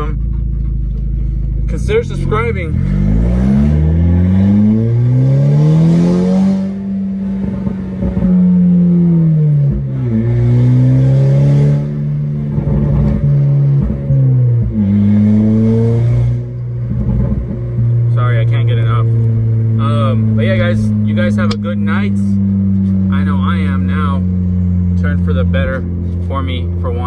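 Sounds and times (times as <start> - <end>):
car engine accelerating: 0.0 - 27.0
raspy exhaust: 0.0 - 27.0.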